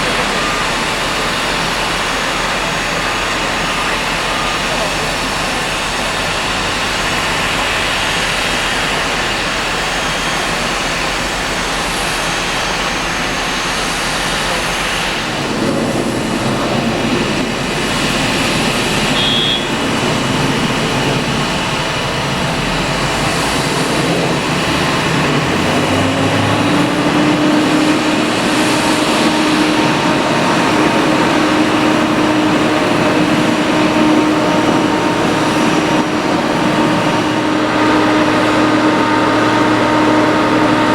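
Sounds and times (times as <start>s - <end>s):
jet engines rushing: 0.0s - 40.9s
low steady whine: 0.0s - 40.9s.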